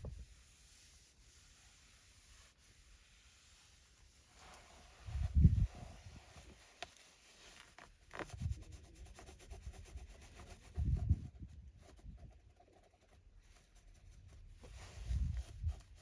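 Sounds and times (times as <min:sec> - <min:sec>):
cloth wiping a surface: 0:00.0 - 0:16.0.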